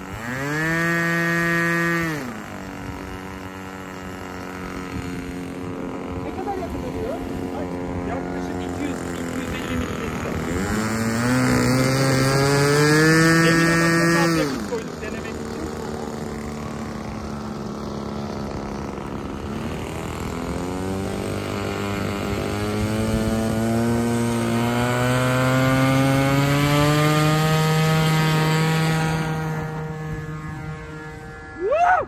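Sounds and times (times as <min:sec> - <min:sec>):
model airplane engine: 0:00.0 - 0:32.0.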